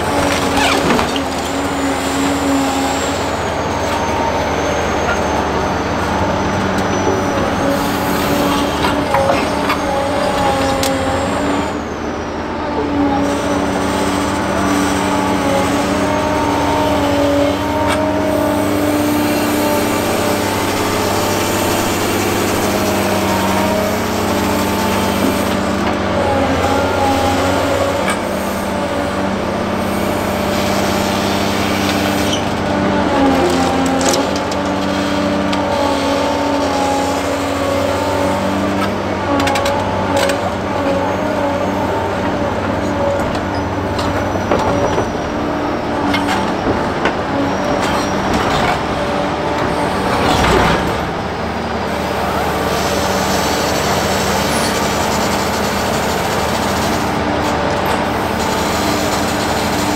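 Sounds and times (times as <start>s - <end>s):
excavator diesel engine droning: 0.0s - 59.9s
hydraulic whine: 0.0s - 59.9s.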